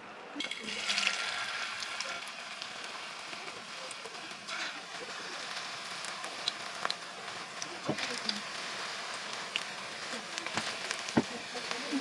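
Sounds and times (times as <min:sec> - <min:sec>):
battered food sizzling in oil: 0:00.3 - 0:12.0.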